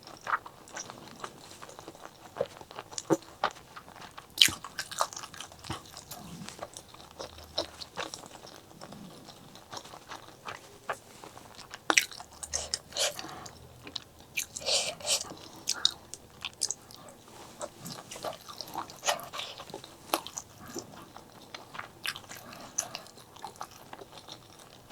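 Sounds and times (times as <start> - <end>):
wet chewing and smacking: 0.0 - 24.9.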